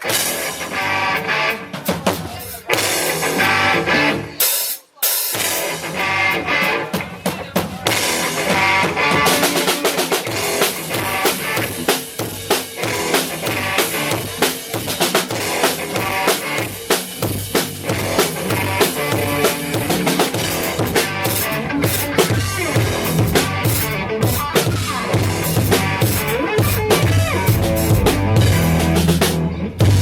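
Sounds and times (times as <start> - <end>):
post-rock band playing live: 0.0 - 4.5, 5.3 - 30.0
drums driving beat: 0.0 - 30.0.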